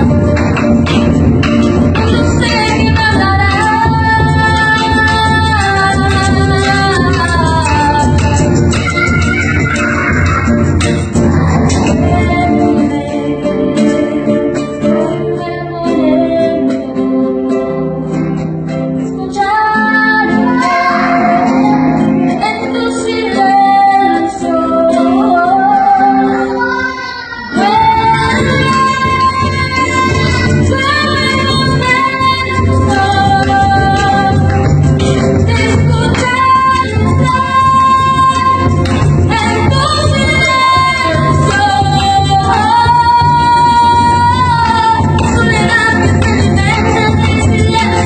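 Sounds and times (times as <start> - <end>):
strummed guitar: 0.0 - 48.0
woman singing: 1.7 - 18.4, 19.0 - 26.8, 27.5 - 48.0.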